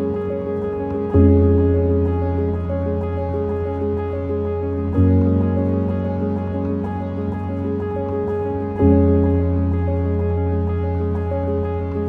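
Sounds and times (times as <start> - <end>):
soft held chords: 0.0 - 12.0.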